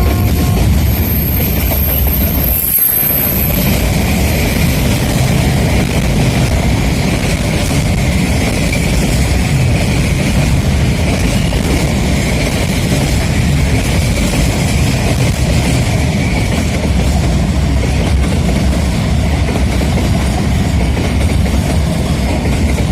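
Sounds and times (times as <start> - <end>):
diesel locomotive running: 0.0 - 22.9
train wagons rolling on rails: 0.0 - 22.9.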